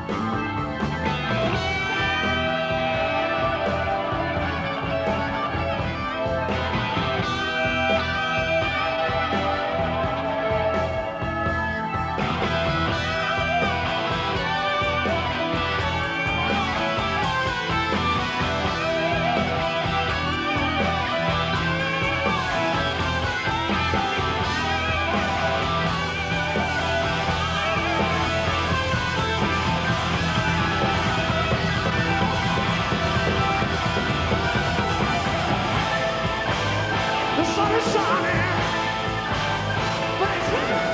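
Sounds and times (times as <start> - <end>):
bass and drums: 0.0 - 40.9
electric guitar lead lines: 0.0 - 40.9.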